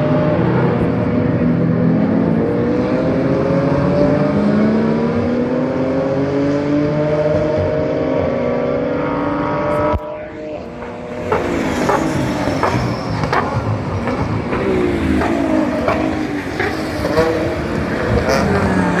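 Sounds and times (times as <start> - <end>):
race car engines accelerating: 0.0 - 19.0.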